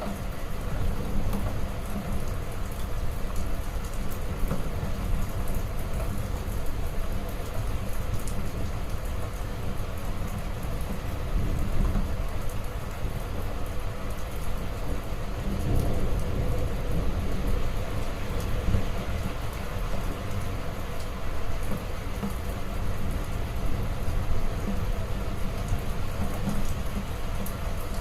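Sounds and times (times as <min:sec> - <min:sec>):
heavy rainfall: 0:00.0 - 0:28.0.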